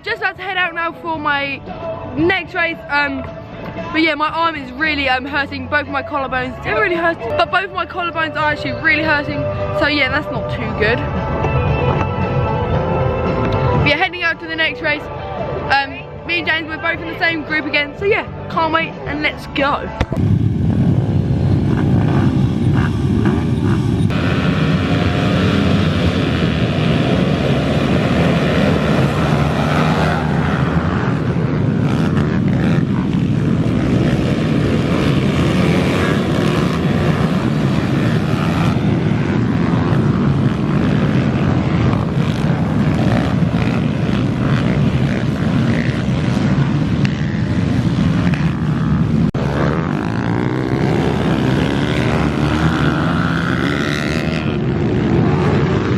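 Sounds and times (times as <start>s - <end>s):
pit bike engines racing: 0.0s - 55.9s.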